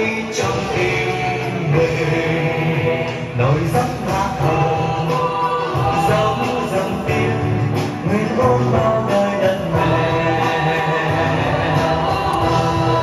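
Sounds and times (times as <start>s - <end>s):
music with singing voice: 0.0s - 13.0s.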